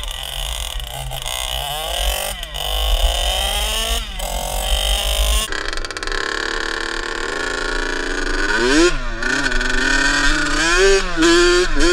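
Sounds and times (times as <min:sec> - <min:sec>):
two-stroke engine revving: 0:00.0 - 0:11.9.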